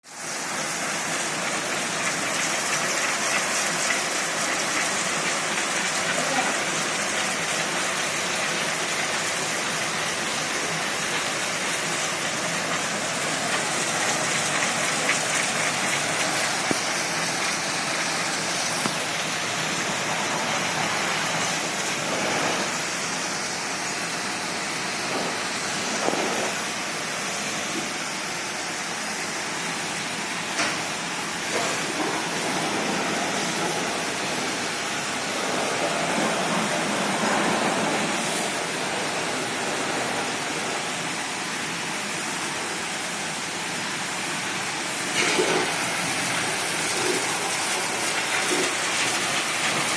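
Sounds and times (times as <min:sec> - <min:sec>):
pressure washer spraying water: 0:00.1 - 0:49.9.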